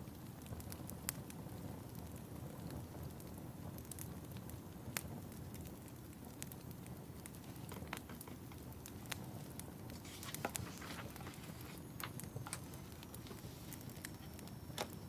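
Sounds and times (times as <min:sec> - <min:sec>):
fireplace crackling: 0:00.0 - 0:15.0.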